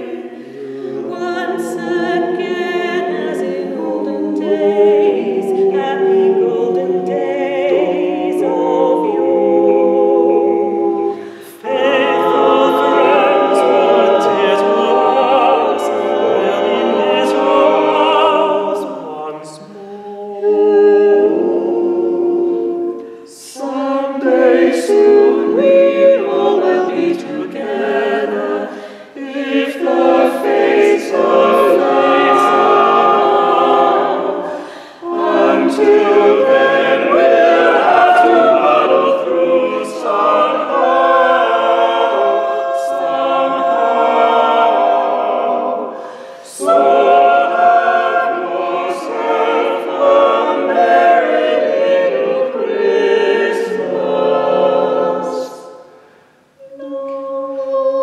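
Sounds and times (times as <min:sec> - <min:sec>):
mixed choir singing a cappella: 0:00.0 - 0:58.0.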